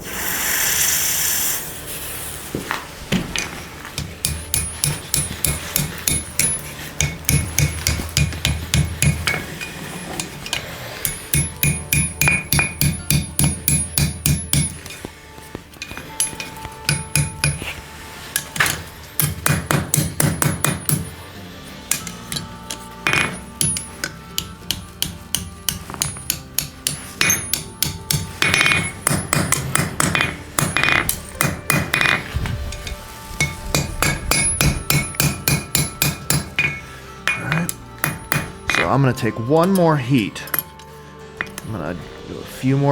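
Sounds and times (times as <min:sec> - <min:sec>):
hammer striking steel on anvil: 0:03.1 - 0:41.8.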